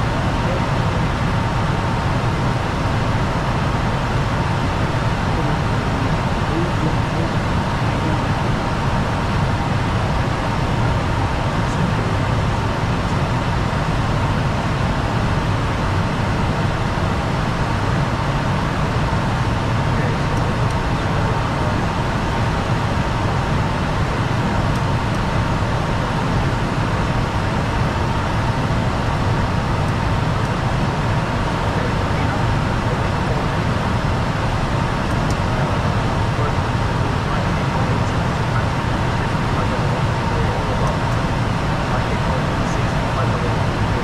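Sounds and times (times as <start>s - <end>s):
faint constant whine: 0.0s - 44.0s
jet engine and airflow rushing: 0.0s - 44.0s.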